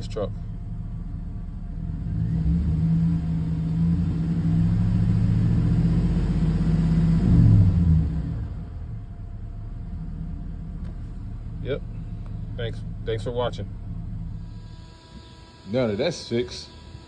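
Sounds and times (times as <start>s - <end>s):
engine running at raised revs: 0.0s - 17.0s.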